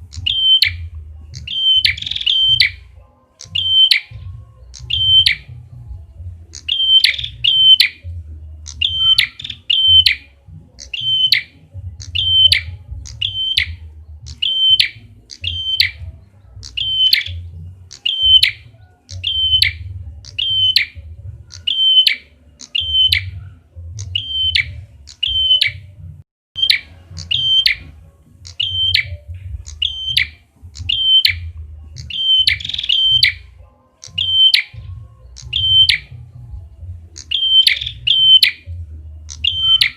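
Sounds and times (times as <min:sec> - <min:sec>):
low hum: 0:00.0 - 0:18.0, 0:18.6 - 0:37.4
bird chirping: 0:00.0 - 0:39.9.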